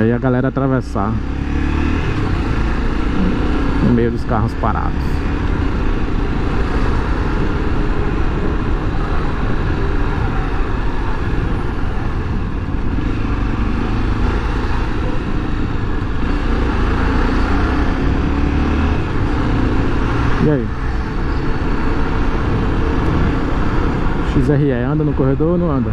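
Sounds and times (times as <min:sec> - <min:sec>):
road and traffic noise: 0:00.0 - 0:25.9
motorcycle engine running: 0:00.7 - 0:24.8.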